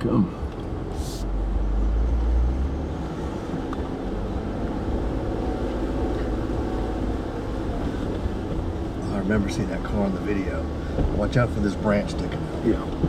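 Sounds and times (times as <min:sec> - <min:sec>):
off-road vehicle engine rumbling: 0:00.0 - 0:13.0.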